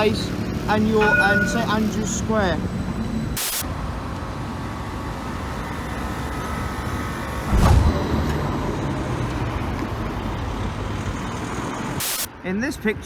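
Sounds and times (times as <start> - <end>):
street vehicles rumbling: 0.0 - 13.0.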